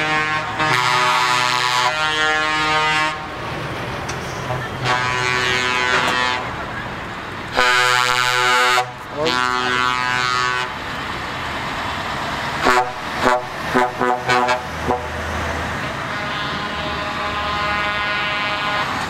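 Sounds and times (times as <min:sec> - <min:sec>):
truck horns: 0:00.0 - 0:03.4, 0:04.5 - 0:11.2, 0:12.5 - 0:19.0
diesel truck engines passing: 0:00.0 - 0:19.0.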